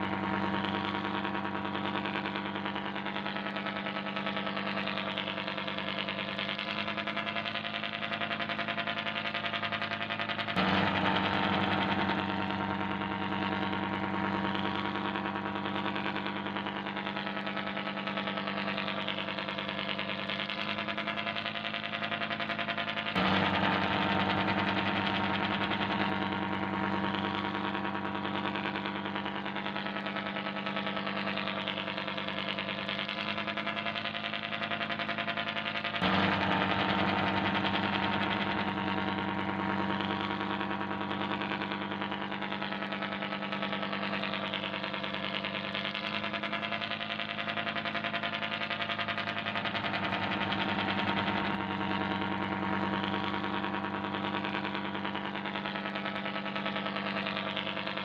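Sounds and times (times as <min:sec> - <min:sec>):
ship diesel engine drone: 0:00.0 - 0:58.0.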